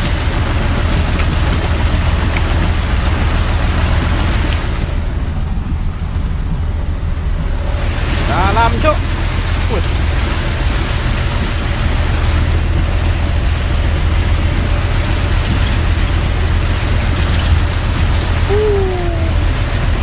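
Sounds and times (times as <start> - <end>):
truck engine rumble: 0.0 - 20.0
water rushing: 0.0 - 20.0.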